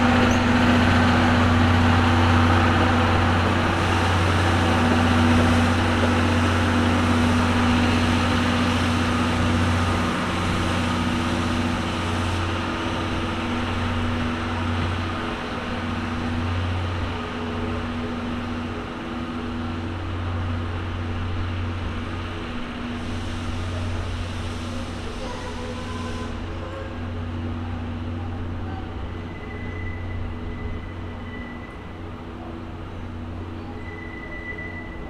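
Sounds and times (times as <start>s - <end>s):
locomotive engine drone: 0.0s - 35.0s.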